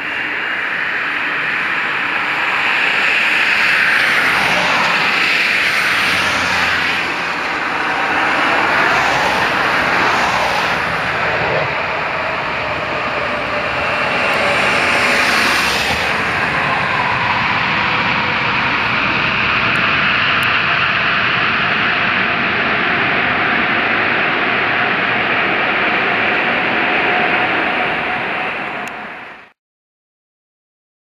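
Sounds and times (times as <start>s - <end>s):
jet engines roaring: 0.0s - 29.5s.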